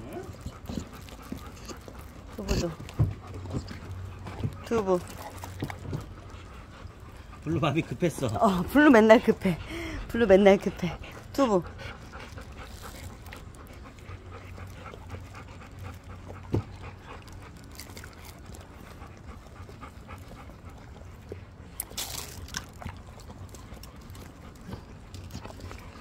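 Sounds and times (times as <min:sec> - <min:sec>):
dogs panting: 0:00.0 - 0:26.0
wet chewing and licking: 0:00.0 - 0:26.0.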